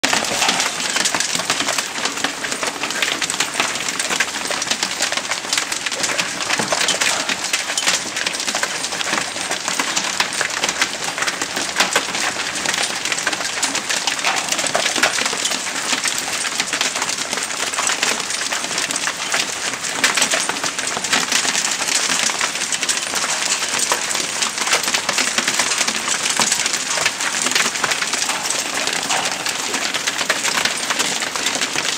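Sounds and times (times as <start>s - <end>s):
hail and rain pelting a deck: 0.0s - 31.9s.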